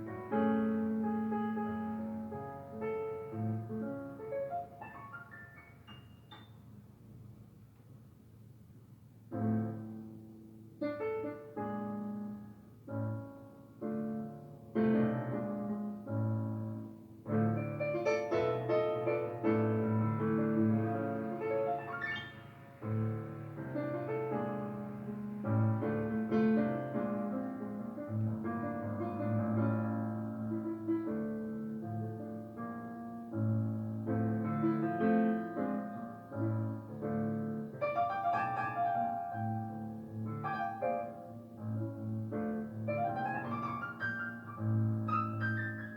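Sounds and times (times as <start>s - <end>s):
piano music: 0.0s - 7.0s, 9.3s - 45.9s.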